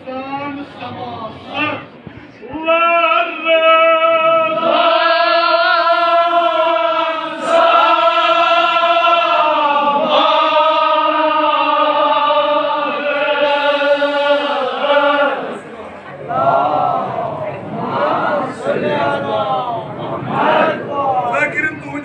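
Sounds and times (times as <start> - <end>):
men chanting in unison: 2.5 - 21.3.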